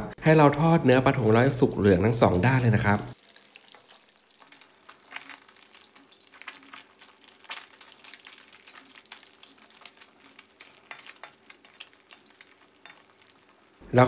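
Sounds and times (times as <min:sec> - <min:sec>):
fish deep-frying in hot oil: 0:02.2 - 0:14.0
crackles and pops of frying: 0:02.3 - 0:14.0.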